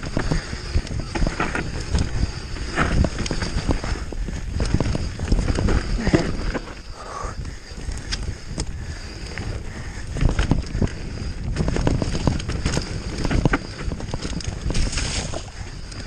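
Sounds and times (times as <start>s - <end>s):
bike knocks and rattles: 0.0s - 6.8s, 7.9s - 16.0s
bike tyres rumbling over dirt: 0.0s - 16.0s
rush of air noise: 0.0s - 16.0s.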